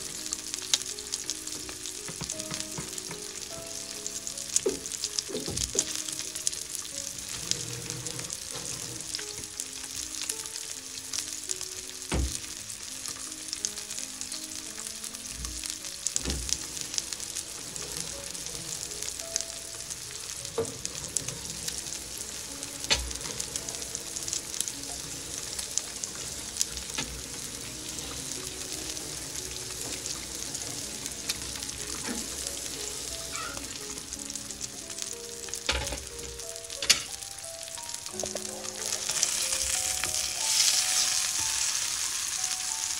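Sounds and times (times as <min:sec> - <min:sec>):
steak sizzling in a pan: 0:00.0 - 0:42.9.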